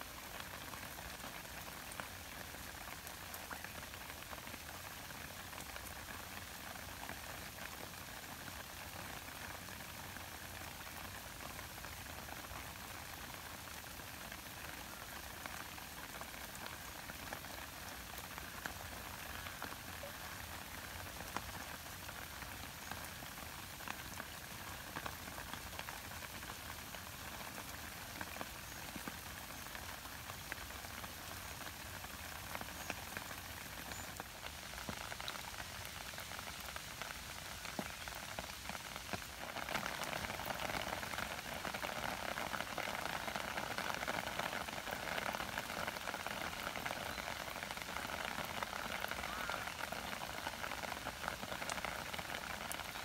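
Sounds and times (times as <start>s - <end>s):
light rain on leaves: 0.0s - 53.0s.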